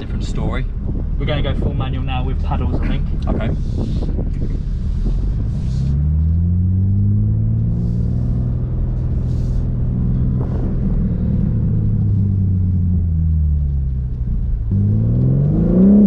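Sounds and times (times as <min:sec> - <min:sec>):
car engine under throttle: 0:00.0 - 0:16.0.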